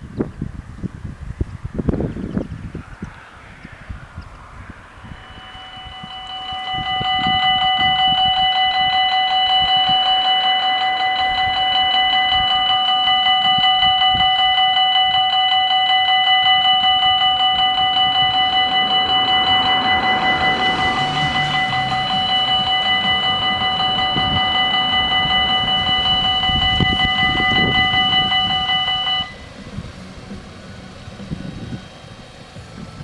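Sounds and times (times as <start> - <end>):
level crossing warning bells: 4.8 - 33.0.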